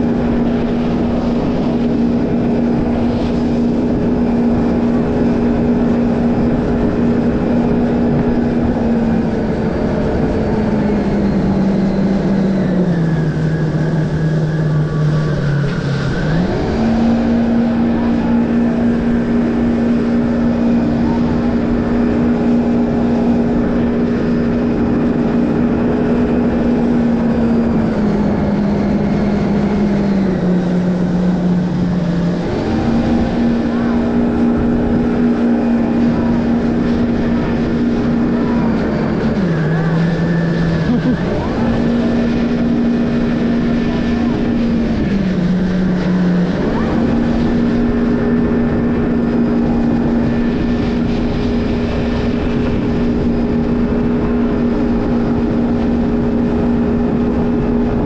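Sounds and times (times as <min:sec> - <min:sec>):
jet ski engine revving: 0:00.0 - 0:58.0
rushing water noise: 0:00.0 - 0:58.0.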